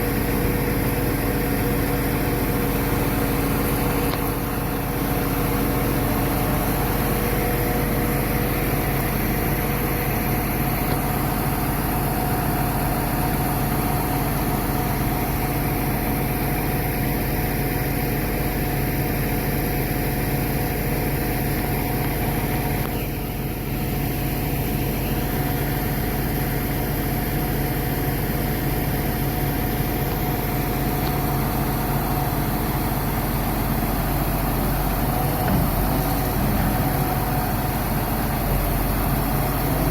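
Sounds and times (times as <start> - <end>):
baler engine and hydraulics rumbling: 0.0 - 39.9.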